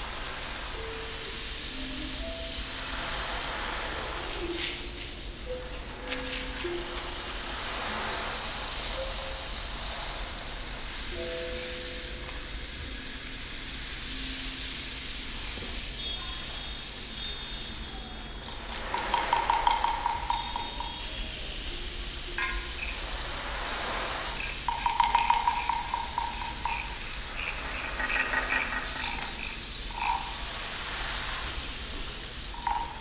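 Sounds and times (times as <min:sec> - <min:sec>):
rustling hiss of hand percussion: 0:00.0 - 0:33.0.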